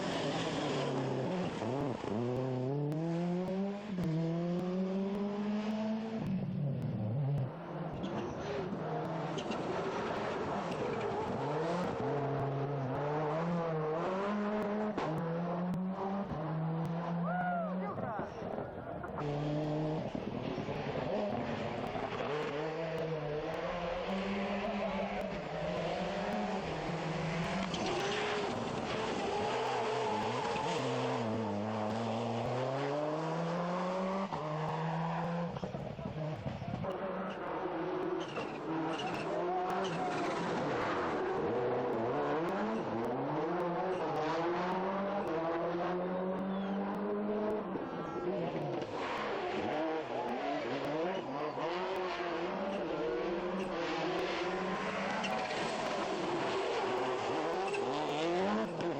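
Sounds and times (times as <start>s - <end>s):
rally car engine revving: 0.0s - 58.9s.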